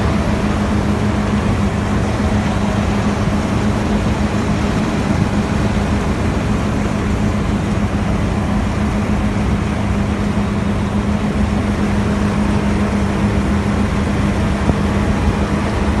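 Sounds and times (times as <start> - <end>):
even rushing noise: 0.0 - 16.0
thresher machine hum: 0.0 - 16.0.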